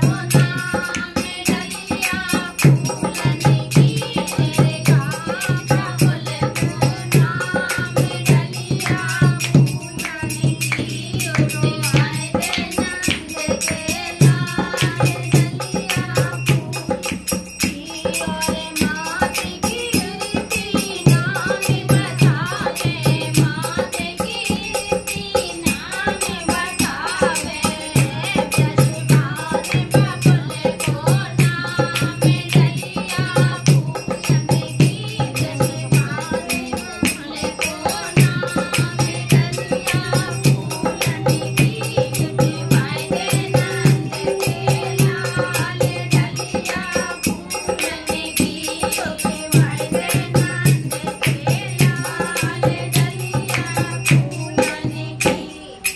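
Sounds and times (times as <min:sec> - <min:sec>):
hand drum: 0:00.0 - 0:55.5
small hand cymbals jingling: 0:00.0 - 0:55.9
women singing together: 0:00.0 - 0:55.9.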